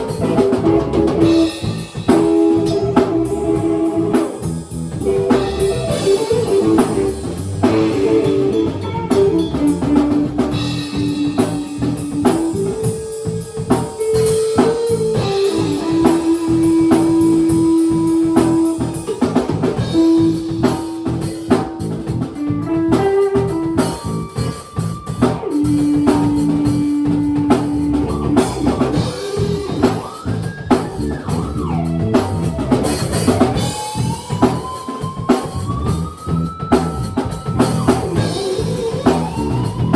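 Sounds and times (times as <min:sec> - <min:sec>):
drum kit beat: 0:00.0 - 0:39.9
guitar long held notes: 0:00.0 - 0:39.9.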